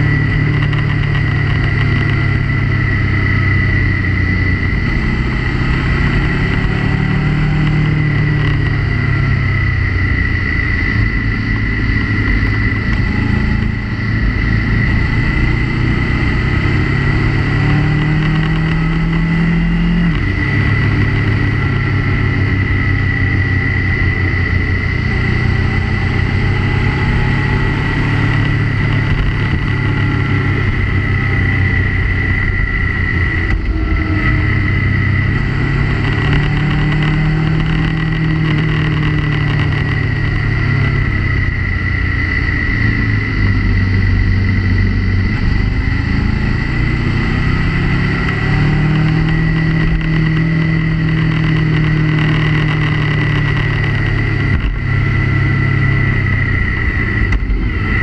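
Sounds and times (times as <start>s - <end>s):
motorcycle engine: 0.0s - 58.0s
steady high whine: 0.0s - 58.0s.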